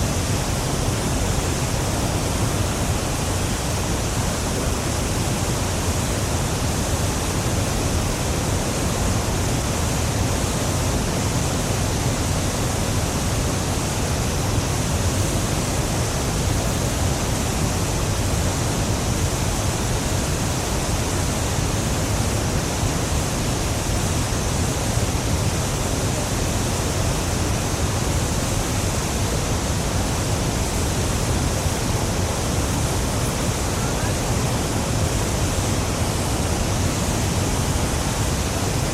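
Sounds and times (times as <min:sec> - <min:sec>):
large waterfall roaring: 0:00.0 - 0:38.9.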